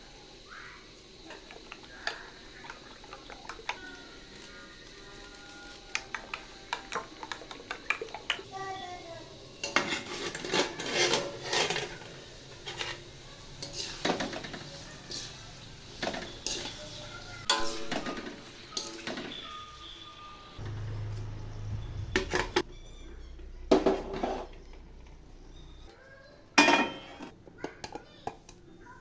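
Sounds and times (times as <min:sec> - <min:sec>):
kitchen utensils clinking on pots: 0:01.0 - 0:20.8, 0:23.7 - 0:25.8, 0:26.5 - 0:28.6.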